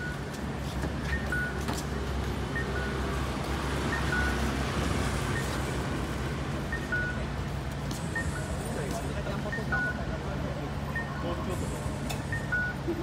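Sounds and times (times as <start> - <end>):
low traffic hum: 0.0 - 13.0.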